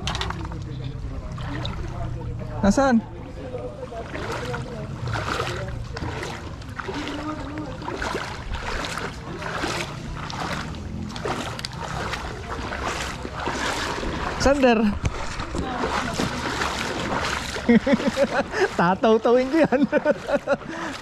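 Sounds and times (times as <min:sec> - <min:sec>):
wading through water: 0:00.0 - 0:21.0.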